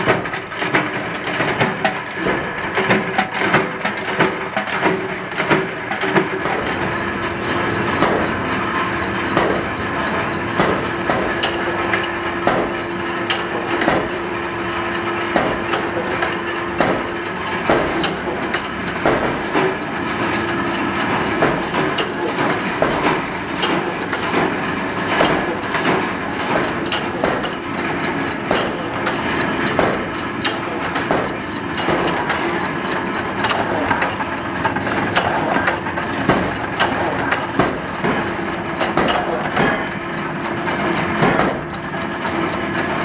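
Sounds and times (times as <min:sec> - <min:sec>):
metallic clicks and knocks: 0:00.0 - 0:43.0
steady hum: 0:00.0 - 0:43.0
workshop machinery running: 0:00.0 - 0:43.0.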